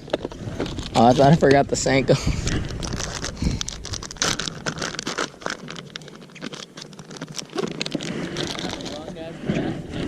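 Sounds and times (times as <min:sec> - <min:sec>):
fishing gear rustling and clicking: 0:00.0 - 0:10.0.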